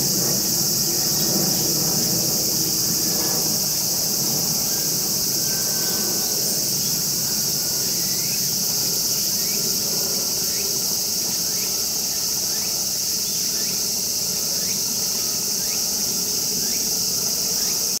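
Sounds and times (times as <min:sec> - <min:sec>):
insects shrilling: 0:00.0 - 0:18.0.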